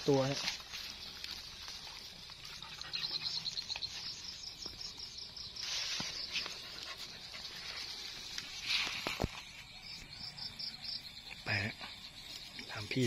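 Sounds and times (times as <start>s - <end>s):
background field insects: 0.0s - 13.0s
insects chirping in a pulsing trill: 0.0s - 13.0s.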